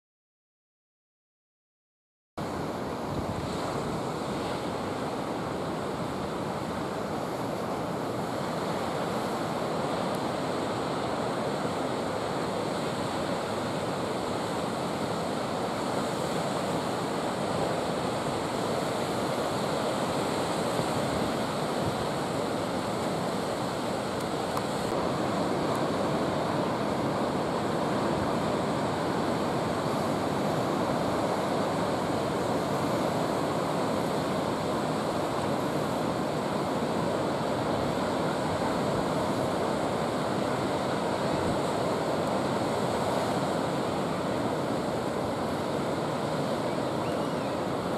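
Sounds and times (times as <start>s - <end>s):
ocean surf breaking: 2.4s - 47.9s
wind on microphone: 2.4s - 47.9s.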